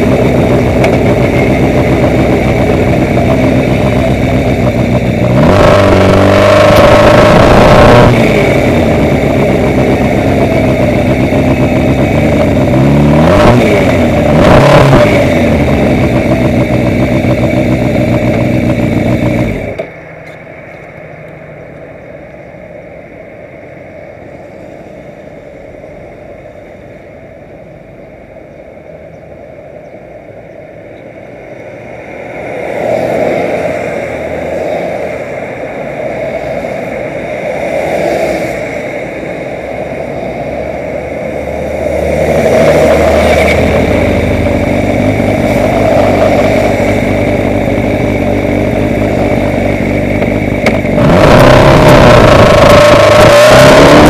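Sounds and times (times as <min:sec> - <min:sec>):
vehicle engine running loudly: 0:00.0 - 0:54.0.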